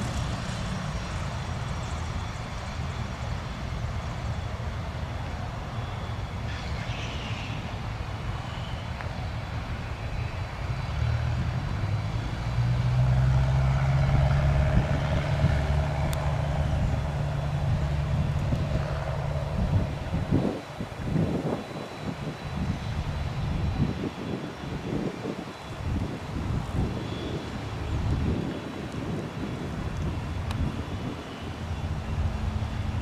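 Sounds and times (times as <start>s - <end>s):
light aircraft engine drone: 0.0s - 33.0s.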